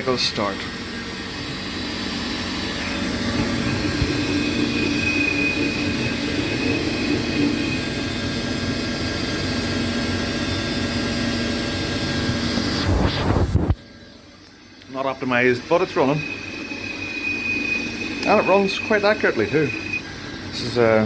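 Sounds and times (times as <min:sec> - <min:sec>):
lathe machine hum: 0:00.0 - 0:21.0
thin high whine: 0:00.0 - 0:21.0.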